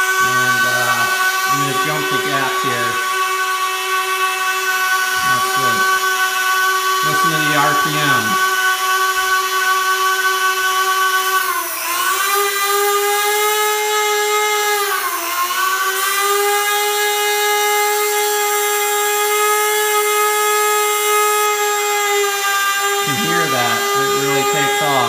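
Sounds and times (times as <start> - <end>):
motor whining at high speed: 0.0 - 25.0.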